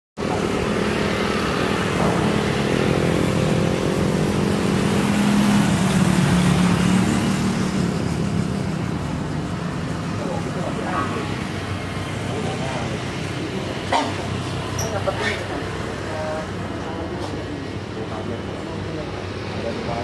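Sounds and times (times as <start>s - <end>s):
engine drone: 0.2s - 20.0s.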